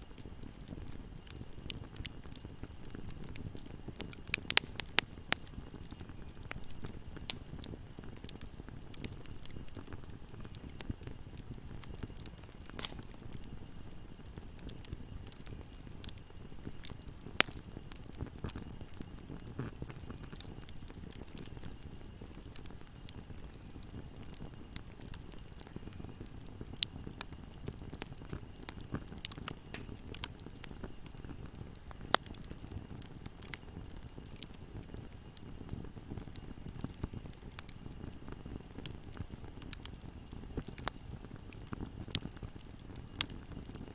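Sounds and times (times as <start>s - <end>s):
burning wood crackling and popping: 0.0s - 43.9s
low rumble of flames: 0.0s - 43.9s.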